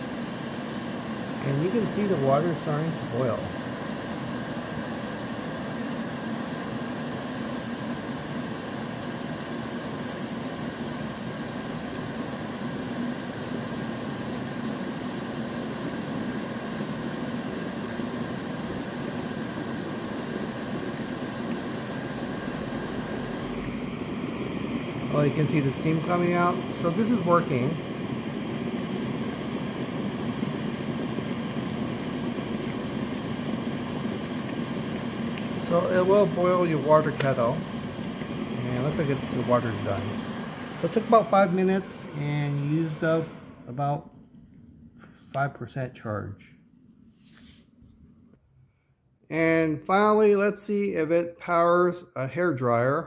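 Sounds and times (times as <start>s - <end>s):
kettle water rumbling to boil: 0.0s - 45.0s
cooling fans humming: 0.0s - 51.7s.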